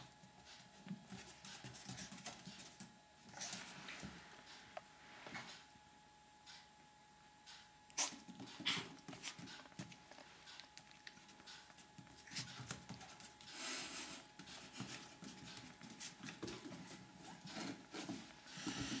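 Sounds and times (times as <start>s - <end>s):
puppies pattering on wooden floor: 0.0s - 4.6s, 8.0s - 19.0s.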